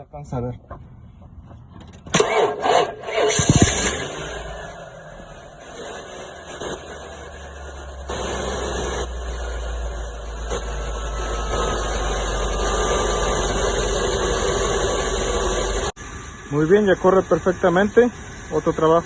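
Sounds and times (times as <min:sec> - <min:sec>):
truck engine idling: 0:00.6 - 0:19.0.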